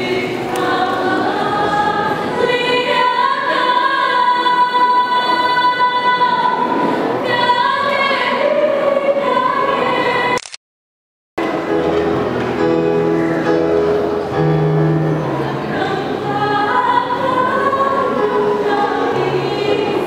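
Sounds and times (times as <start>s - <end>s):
choir singing held chords: 0.0s - 10.4s, 12.9s - 20.0s.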